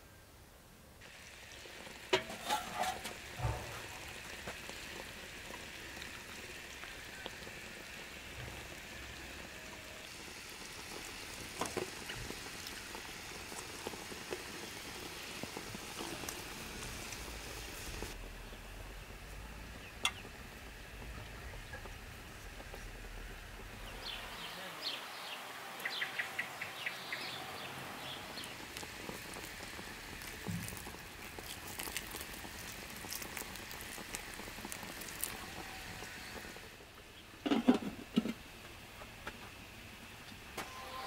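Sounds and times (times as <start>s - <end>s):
food sizzling in a metal pot: 1.0s - 38.7s, 39.6s - 41.0s.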